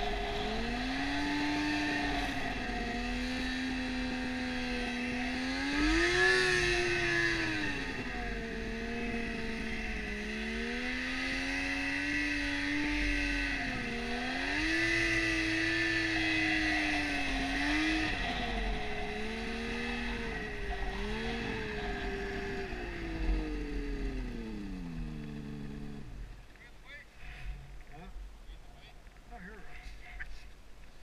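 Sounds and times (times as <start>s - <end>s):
snowmobile engine revving: 0.0s - 26.4s.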